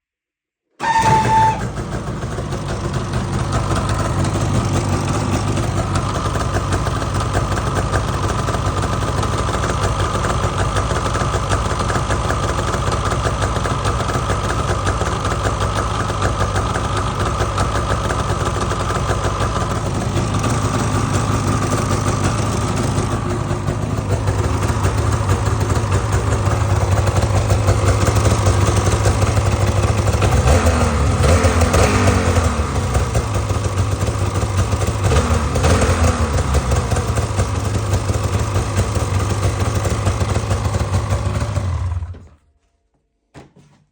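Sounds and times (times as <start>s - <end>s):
engine ticking: 0.8s - 42.4s
snowmobile engine idling: 0.8s - 42.4s.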